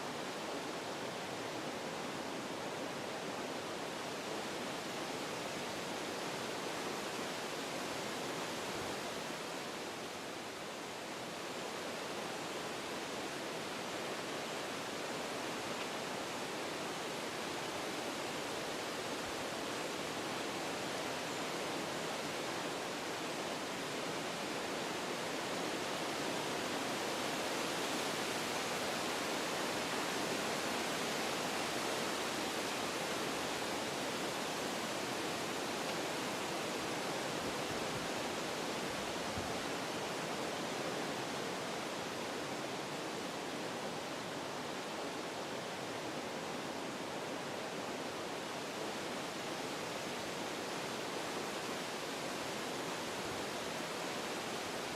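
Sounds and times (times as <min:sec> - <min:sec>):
wind rustling leaves and branches: 0:00.0 - 0:54.9.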